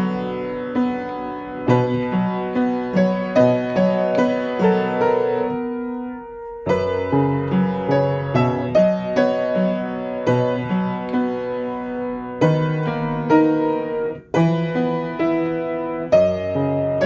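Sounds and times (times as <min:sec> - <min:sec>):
slow solo piano ballad: 0:00.0 - 0:17.0.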